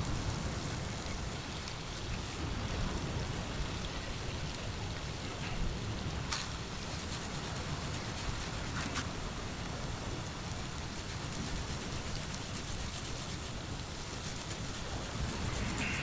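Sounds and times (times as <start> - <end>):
food sizzling over campfire: 0.0 - 16.0.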